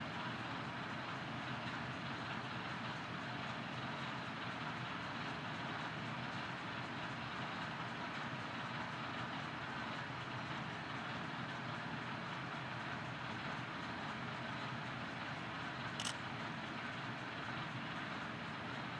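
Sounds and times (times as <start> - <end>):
diesel locomotive engine running: 0.0 - 18.9.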